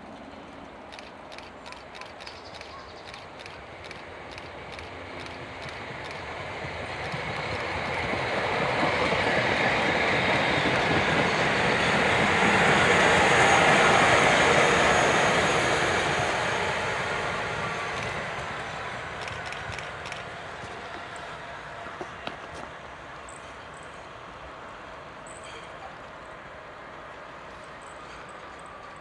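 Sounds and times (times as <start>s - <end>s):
train wheels on rails passing: 0.0s - 29.0s.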